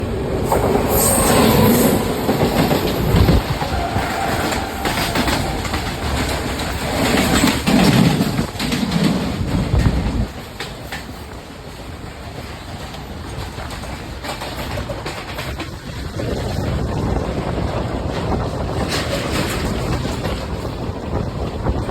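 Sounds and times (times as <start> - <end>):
freight train rumbling past: 0.0 - 21.9
wheels clacking over rail joints: 0.0 - 21.9.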